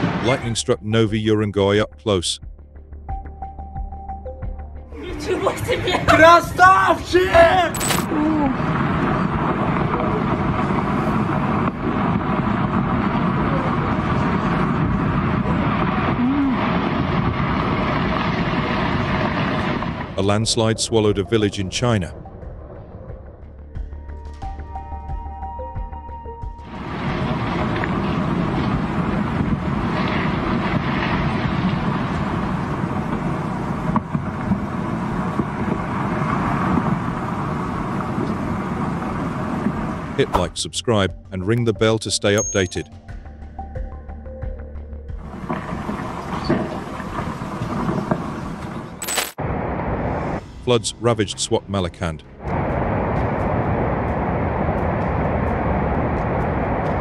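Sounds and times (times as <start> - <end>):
landslide debris rumbling: 0.0 - 1.7, 5.0 - 22.8, 26.6 - 41.5, 45.2 - 57.0.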